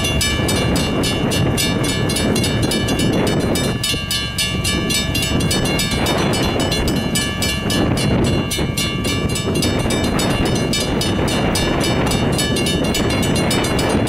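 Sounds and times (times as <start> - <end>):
railroad crossing bell ringing: 0.0 - 14.0
steady low rumble: 0.0 - 14.0.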